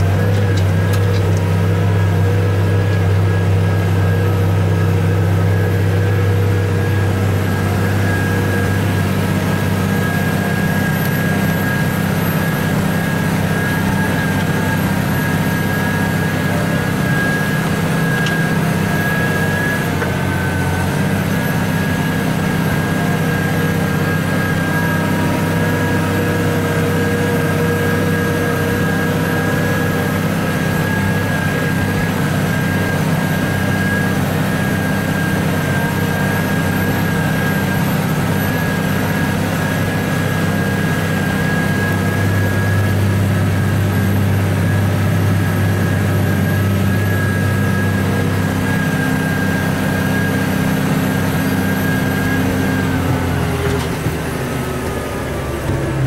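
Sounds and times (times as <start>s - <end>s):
thin steady whine: 0.0s - 56.0s
tractor diesel engine running: 0.0s - 56.0s.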